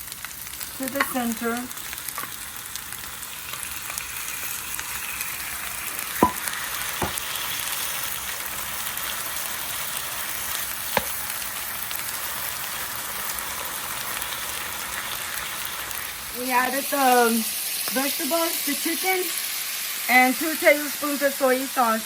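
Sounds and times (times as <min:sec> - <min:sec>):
rice sizzling on hot grill: 0:00.0 - 0:22.0.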